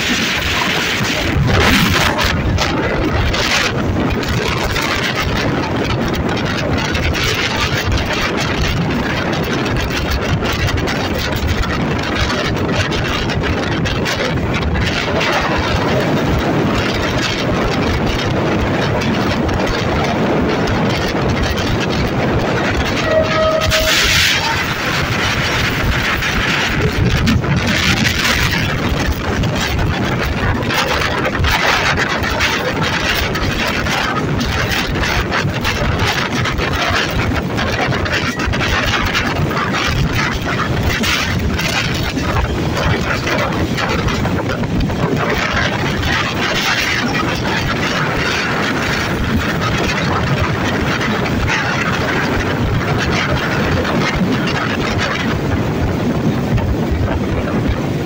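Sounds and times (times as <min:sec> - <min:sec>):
locomotive rumbling on rails: 0:00.0 - 0:58.0.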